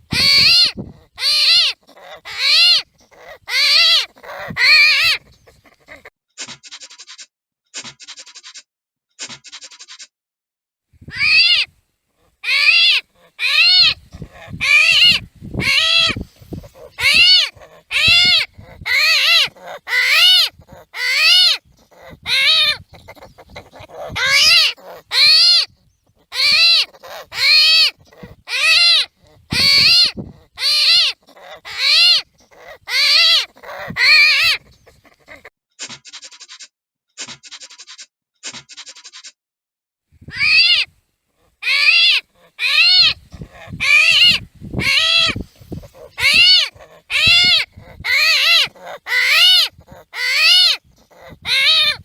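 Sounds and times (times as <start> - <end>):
animal calling in loud cries: 0.0 - 7.2, 11.1 - 36.7, 40.3 - 52.0.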